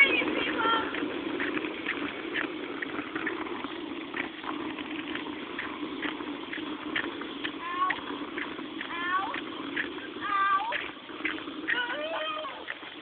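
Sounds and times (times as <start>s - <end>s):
bicycle rolling on rough road: 0.0s - 13.0s.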